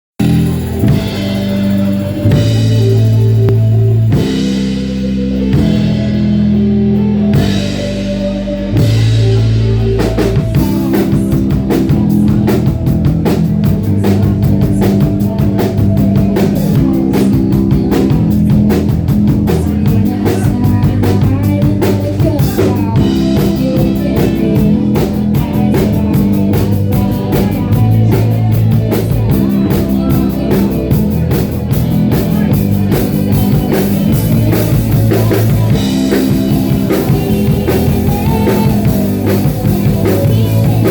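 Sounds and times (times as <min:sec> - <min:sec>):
live rock band playing: 0:00.2 - 0:40.9.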